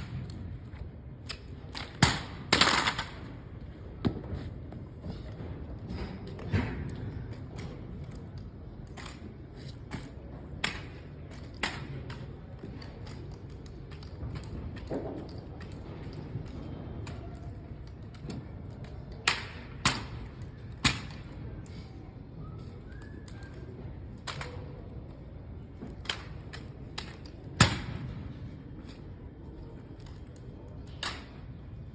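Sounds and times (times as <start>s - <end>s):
low background hum: 0.0s - 31.9s.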